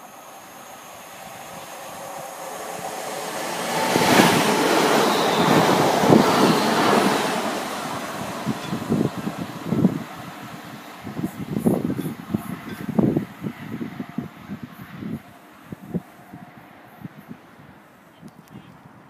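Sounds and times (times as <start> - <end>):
electric train passing: 0.0 - 17.9.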